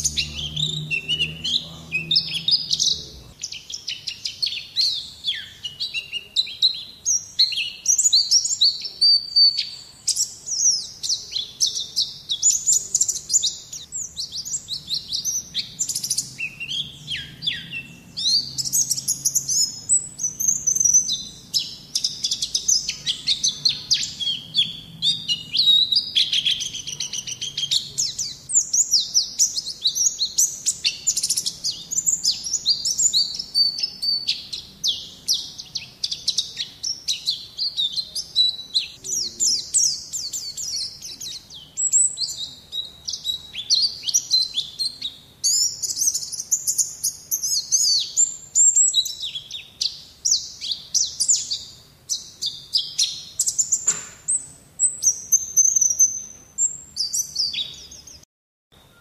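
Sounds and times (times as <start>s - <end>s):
bird twittering chirps and trills: 0.0s - 59.0s.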